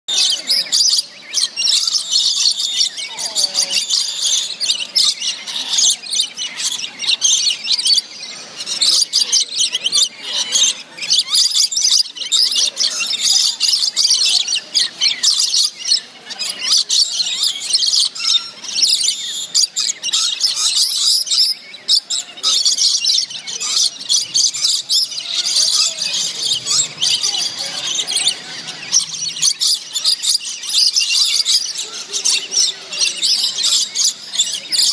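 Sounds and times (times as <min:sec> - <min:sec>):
lorikeets screeching and chattering: 0:00.1 - 0:34.9.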